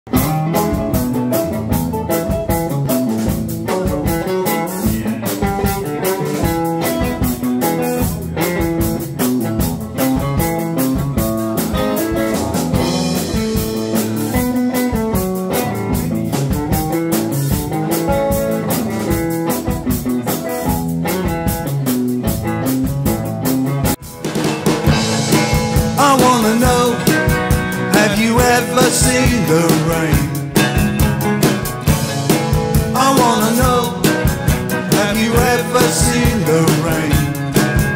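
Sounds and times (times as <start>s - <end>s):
drum kit steady beat: 0.1s - 37.9s
roots band playing live: 0.1s - 37.9s.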